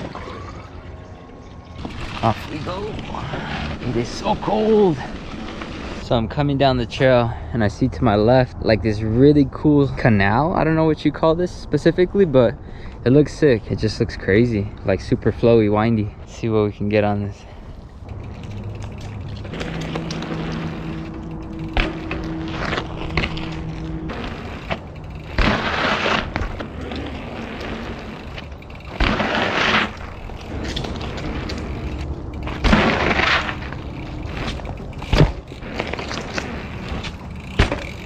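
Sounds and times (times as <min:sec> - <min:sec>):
bike tyres on dirt and rock: 0:00.0 - 0:07.4, 0:14.6 - 0:38.0.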